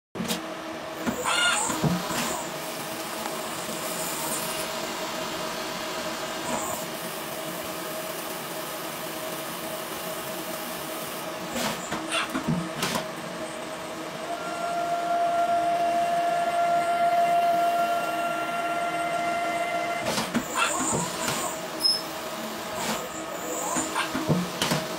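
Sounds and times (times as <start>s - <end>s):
lathe machine hiss with tone: 1.1s - 11.5s, 13.9s - 24.7s.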